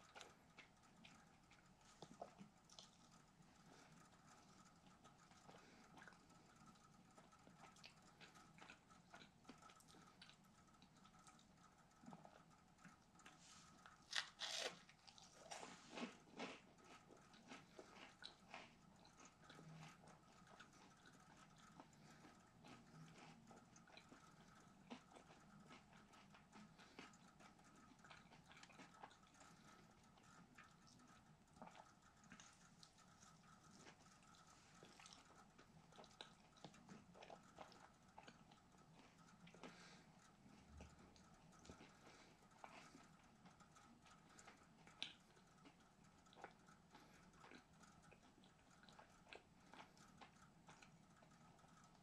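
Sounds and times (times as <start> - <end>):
crunchy chewing: 0.0 - 52.0.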